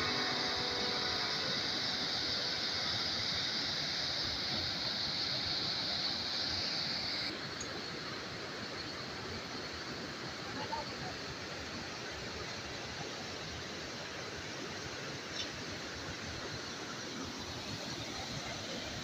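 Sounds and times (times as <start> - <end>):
river flowing: 0.0 - 19.0.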